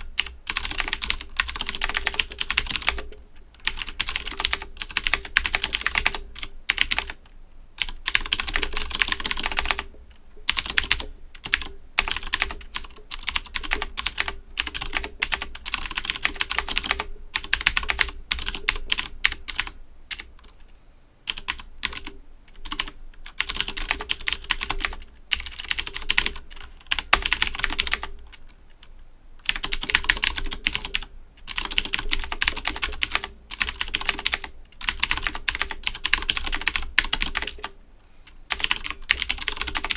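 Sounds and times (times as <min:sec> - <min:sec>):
clicky mechanical keyboard typing: 0:00.0 - 0:20.6, 0:21.3 - 0:37.8, 0:38.5 - 0:39.9.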